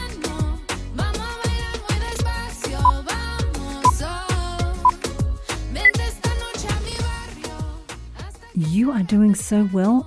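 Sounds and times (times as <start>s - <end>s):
workout music with kick drum: 0.0s - 8.6s.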